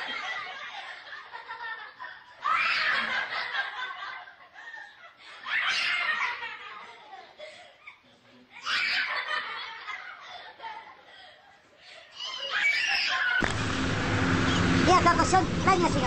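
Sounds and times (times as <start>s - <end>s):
laughter with high squeals: 0.0s - 13.4s.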